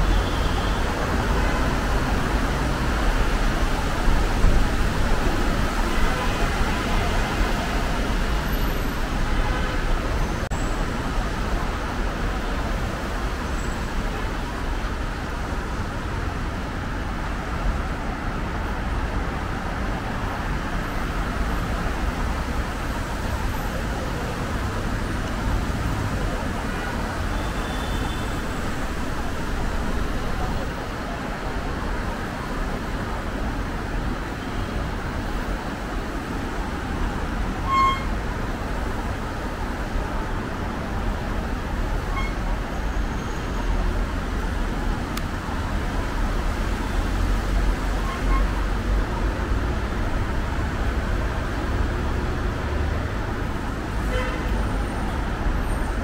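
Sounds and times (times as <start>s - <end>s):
cars passing: 0.0s - 56.0s
tyres hissing on wet road: 0.0s - 56.0s.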